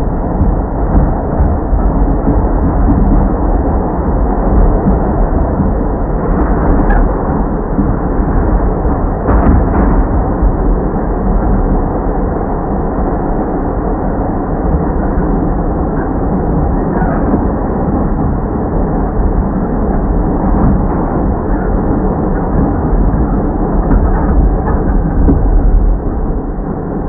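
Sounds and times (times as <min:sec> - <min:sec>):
subway train rumble: 0:00.0 - 0:27.0.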